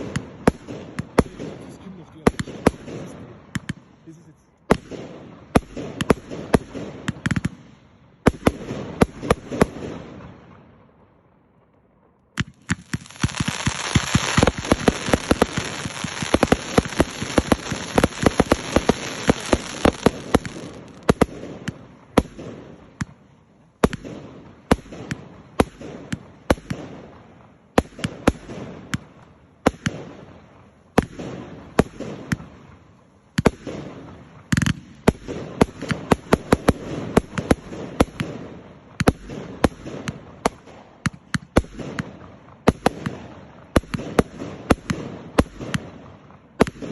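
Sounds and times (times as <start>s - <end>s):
fireworks crackling: 0.0s - 10.6s, 12.3s - 46.9s
fireworks bangs: 0.0s - 46.9s.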